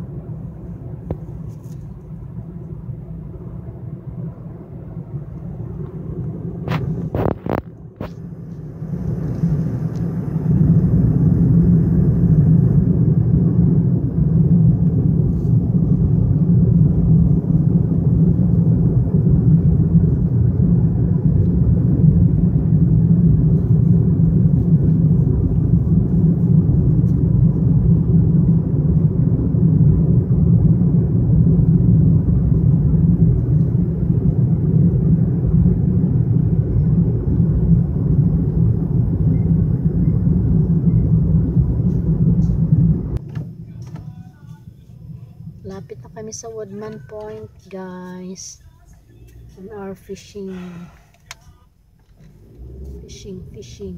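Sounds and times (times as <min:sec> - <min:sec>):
road rumble inside a car: 0:00.0 - 0:53.9.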